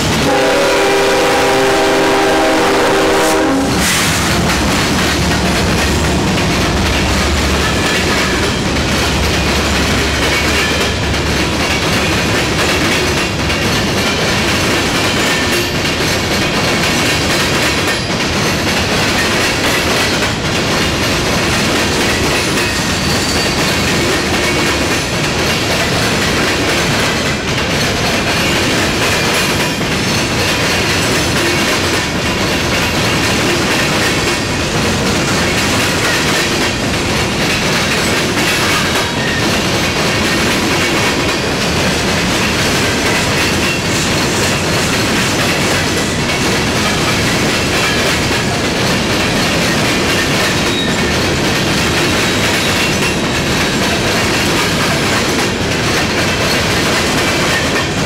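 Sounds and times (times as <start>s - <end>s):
freight wheels clickety-clack: 3.8s - 58.0s.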